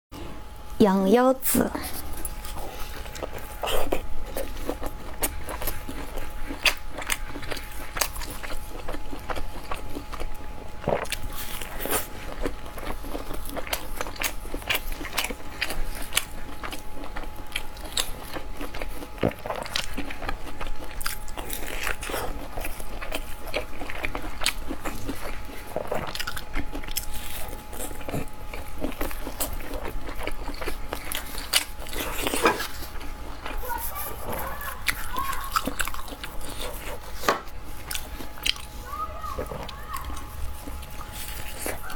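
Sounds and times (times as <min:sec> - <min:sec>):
person chewing food: 0:01.8 - 0:41.9.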